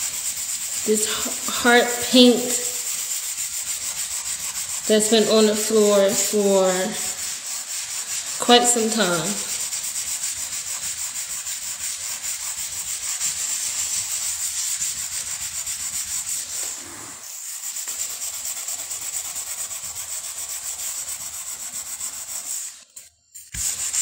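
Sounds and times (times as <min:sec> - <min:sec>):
scouring pad scratching a wooden floor: 0:00.0 - 0:24.0.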